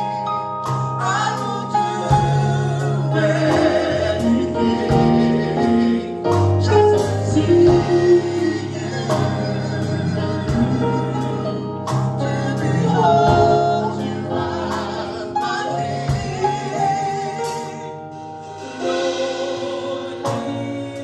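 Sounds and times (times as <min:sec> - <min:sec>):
gospel band playing: 0:00.0 - 0:21.0
bass line: 0:00.8 - 0:17.8
choir singing: 0:01.0 - 0:21.0.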